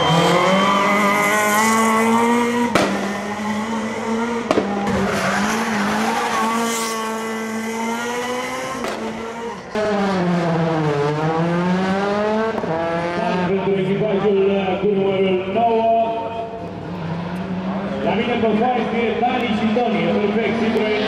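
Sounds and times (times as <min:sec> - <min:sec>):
rally car engines revving hard: 0:00.0 - 0:21.0.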